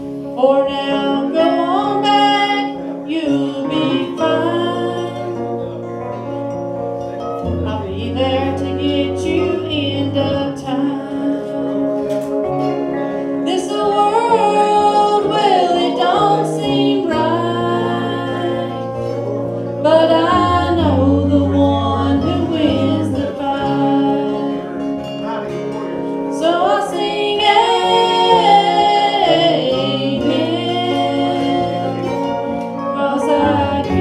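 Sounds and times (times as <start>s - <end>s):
guitar: 0.0s - 34.0s
women singing gospel: 0.4s - 5.7s, 7.6s - 25.1s, 26.1s - 34.0s
low bass notes: 1.2s - 34.0s.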